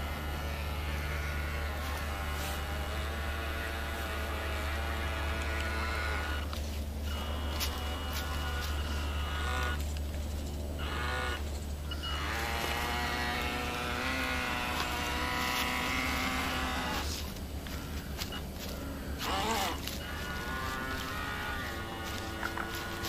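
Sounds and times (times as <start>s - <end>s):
small electric motor whine: 0.0s - 23.0s
steady low rumble: 0.0s - 23.0s.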